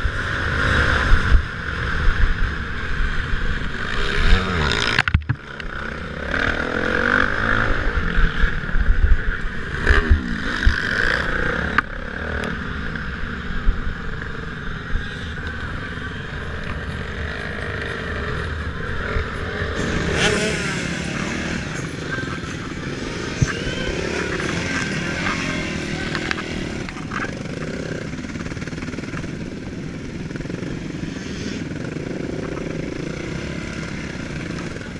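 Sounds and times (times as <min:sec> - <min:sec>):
motocross motorcycle engines: 0:00.0 - 0:34.9.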